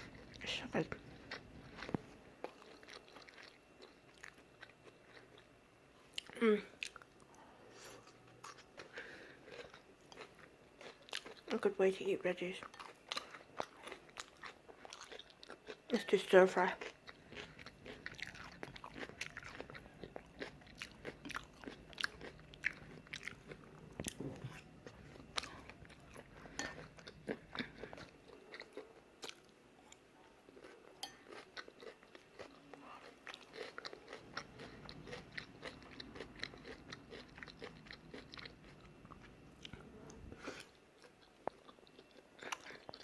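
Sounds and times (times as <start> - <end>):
person chewing noodles: 0.0 - 11.5, 12.6 - 15.9, 16.7 - 43.0.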